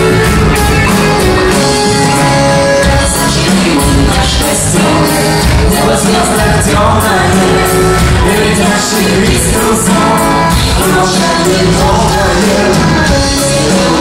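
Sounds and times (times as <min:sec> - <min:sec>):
live pop band playing: 0:00.0 - 0:14.0
steady drum beat: 0:00.0 - 0:14.0
person singing: 0:01.1 - 0:14.0.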